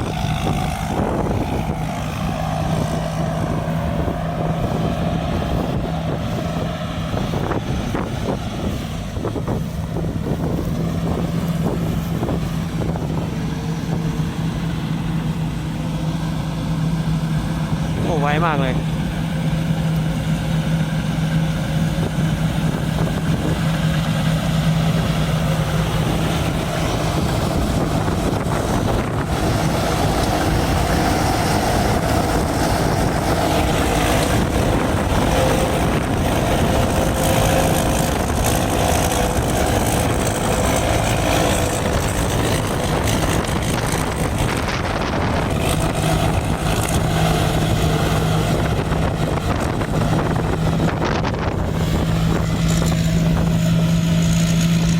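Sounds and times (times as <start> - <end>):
combine harvester droning: 0.0 - 54.9.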